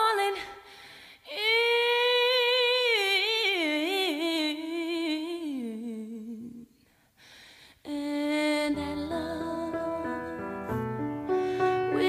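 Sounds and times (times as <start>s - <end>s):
woman singing a cappella: 0.0s - 6.9s, 7.8s - 10.7s.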